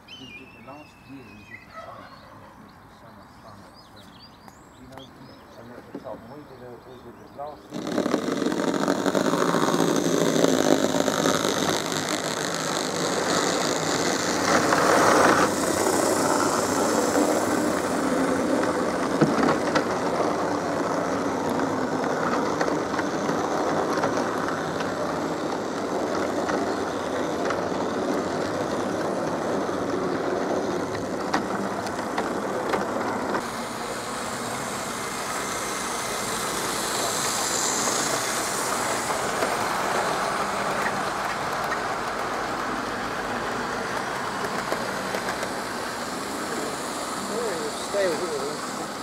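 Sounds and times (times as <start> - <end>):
model train running: 5.2 - 49.0.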